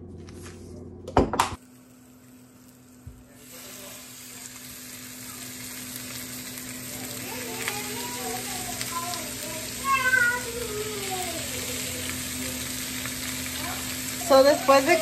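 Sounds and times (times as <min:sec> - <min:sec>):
chicken sizzling in a pan: 0:01.6 - 0:15.0.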